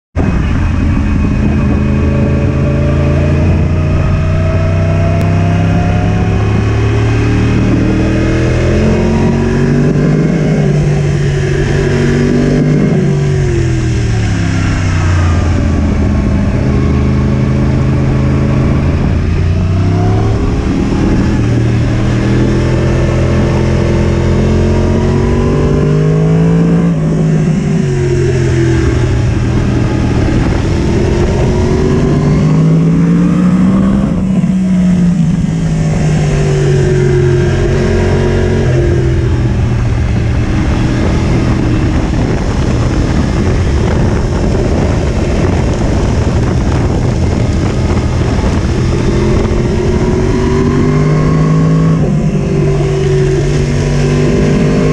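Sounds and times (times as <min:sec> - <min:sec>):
wind rush over microphone: 0:00.1 - 0:54.9
motorcycle engine revving: 0:00.2 - 0:54.9.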